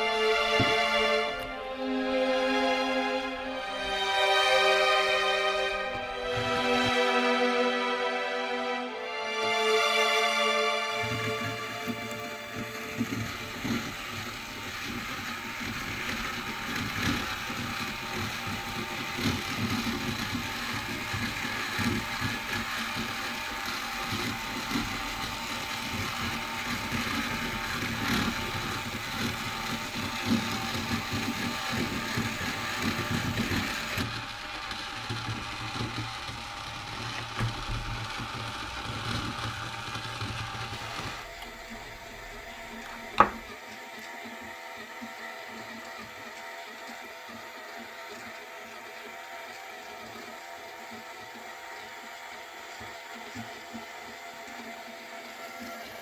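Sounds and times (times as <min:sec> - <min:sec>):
plastic gears whirring: 0:03.2 - 0:07.8, 0:10.0 - 0:56.0.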